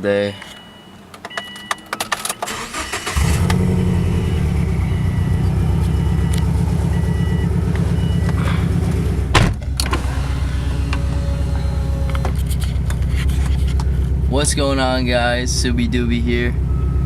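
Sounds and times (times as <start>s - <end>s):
car engine starting and idling: 1.1s - 17.0s.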